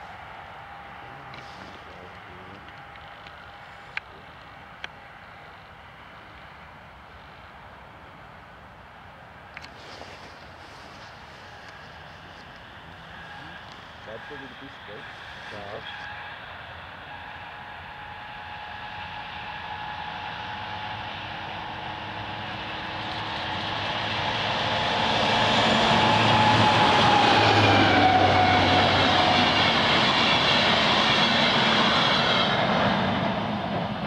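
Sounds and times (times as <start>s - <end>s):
diesel locomotive engine passing: 0.0s - 34.0s.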